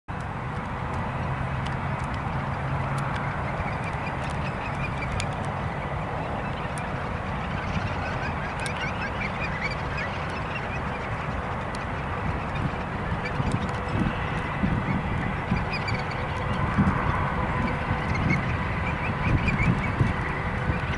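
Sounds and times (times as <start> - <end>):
jet engines rumbling: 0.1 - 20.9
birds calling: 1.0 - 20.9.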